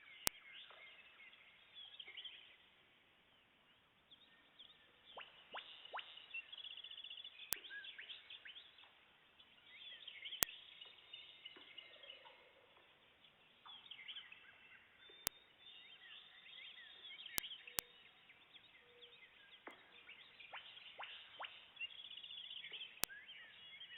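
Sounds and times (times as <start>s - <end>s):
birds chirping and trilling: 0.0s - 23.9s.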